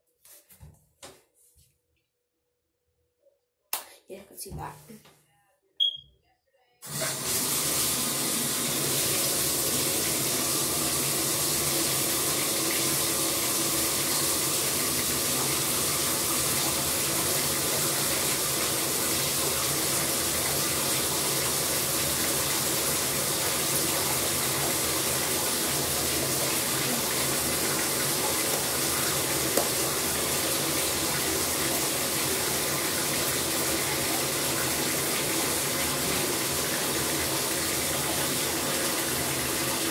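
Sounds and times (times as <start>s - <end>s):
bathtub faucet running: 6.8s - 39.9s
water pouring into tub: 6.8s - 39.9s.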